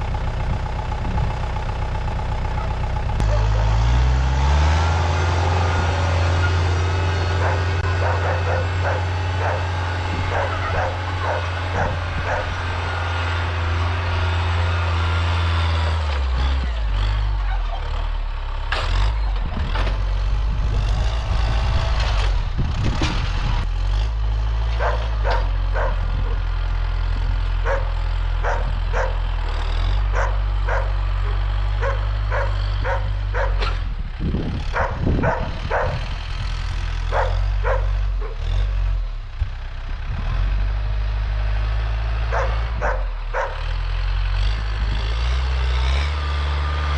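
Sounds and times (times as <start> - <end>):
heavy vehicle engine running: 0.0 - 46.9.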